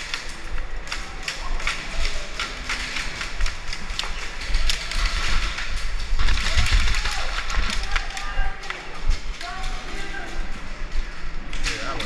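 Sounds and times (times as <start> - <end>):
low rumble of movement: 0.0 - 11.8.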